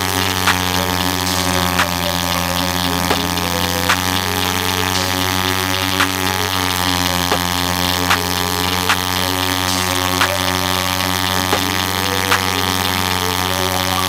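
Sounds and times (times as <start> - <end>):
pit bike engine at high revs: 0.0 - 14.0.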